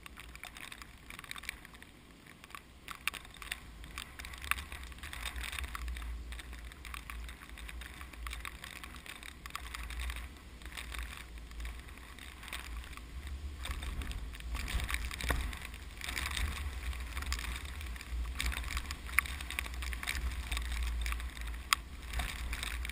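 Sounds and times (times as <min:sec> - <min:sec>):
rustling rice plants: 0:00.0 - 0:22.9
short crackles: 0:00.0 - 0:22.9
strong wind buffeting microphone: 0:03.8 - 0:22.9.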